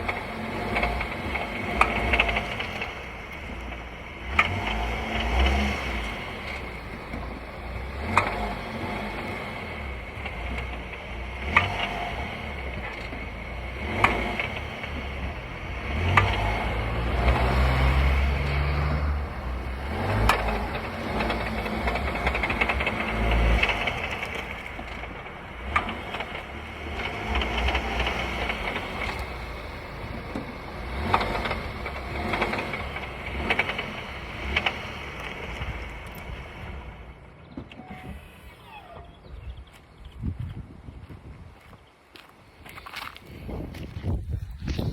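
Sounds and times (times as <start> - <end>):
car engine drone: 0.0 - 40.4, 42.4 - 44.9.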